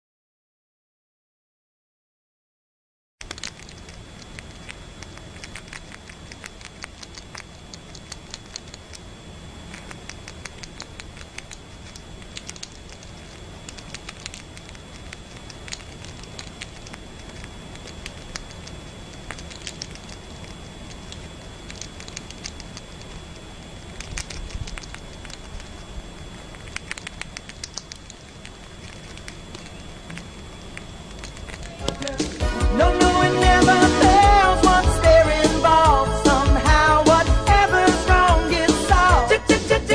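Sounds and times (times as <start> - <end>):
squirrel chewing wet crunching: 3.2 - 39.2.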